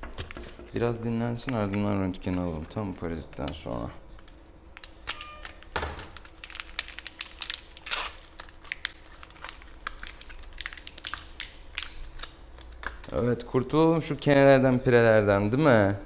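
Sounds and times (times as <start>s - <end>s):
plastic packaging crinkling: 0.2s - 13.3s.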